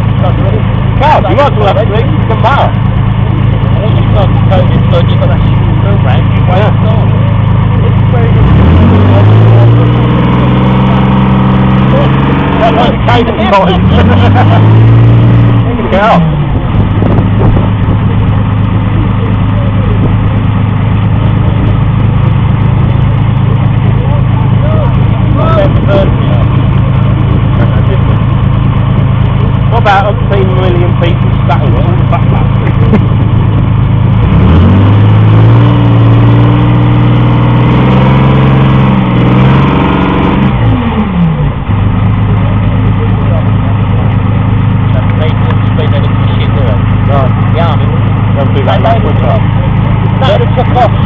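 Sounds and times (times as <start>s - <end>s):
tracked vehicle engine droning: 0.0s - 51.0s.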